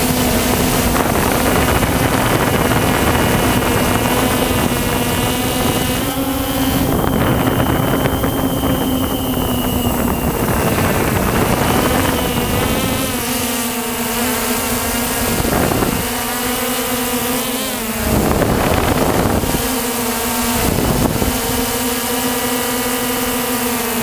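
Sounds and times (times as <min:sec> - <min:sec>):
drone motors humming: 0:00.0 - 0:24.0
wind noise on microphone: 0:00.0 - 0:24.0.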